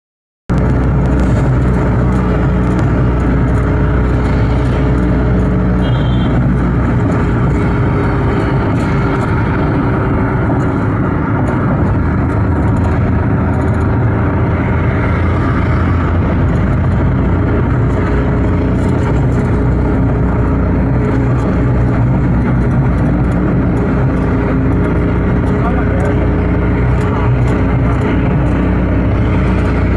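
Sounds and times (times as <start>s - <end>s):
road noise: 0.5s - 29.9s
vehicle engine hum: 0.5s - 29.9s.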